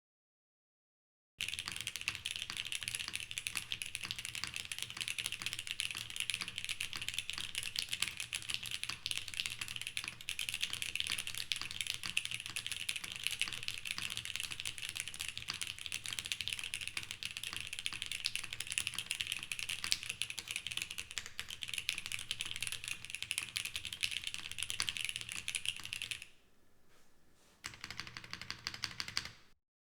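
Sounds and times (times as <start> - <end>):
rapid typing on mechanical keyboard: 1.4 - 26.4, 27.6 - 29.6.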